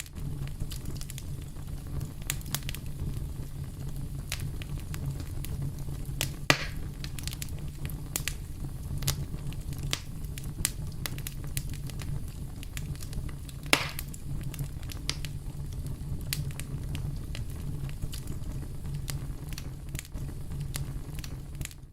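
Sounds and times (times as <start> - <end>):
fire crackles and pops: 0.0 - 21.9
wood fire rumbling: 0.0 - 21.9.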